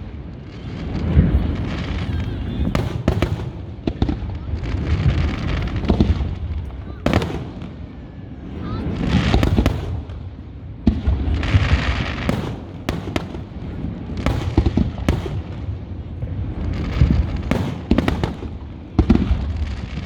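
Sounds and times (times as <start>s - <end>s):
firework crackling: 0.0s - 20.0s.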